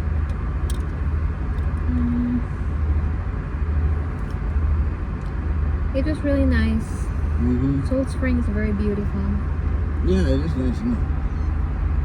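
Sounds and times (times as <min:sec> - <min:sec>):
idling engine drone: 0:00.0 - 0:12.0.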